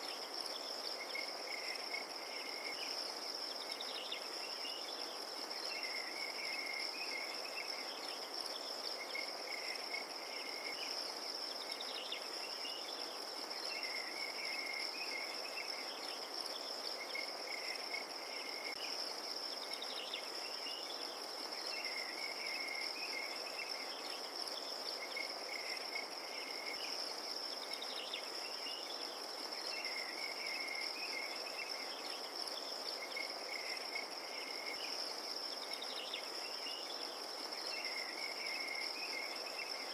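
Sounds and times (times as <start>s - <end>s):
crickets trilling: 0.0s - 39.9s
lower insect call: 0.0s - 39.9s.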